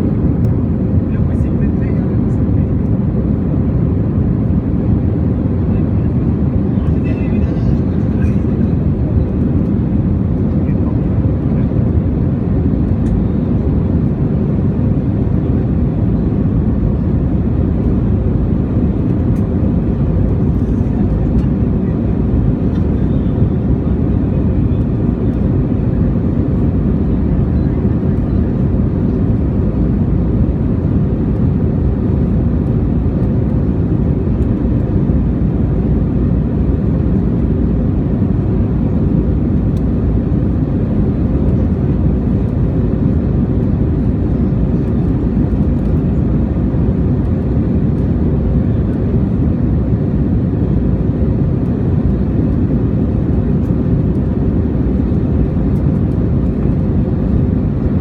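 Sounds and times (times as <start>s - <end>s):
jet cabin rumble: 0.0s - 58.0s.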